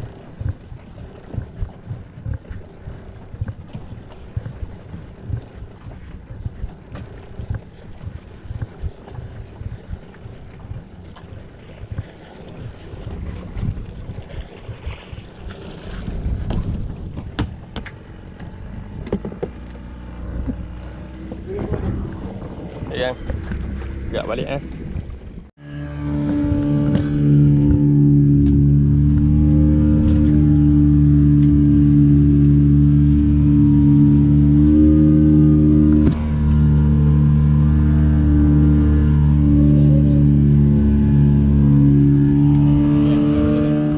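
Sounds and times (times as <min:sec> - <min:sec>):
boat engine running: 0:00.0 - 0:43.9
wind rumbling on microphone: 0:00.0 - 0:43.9.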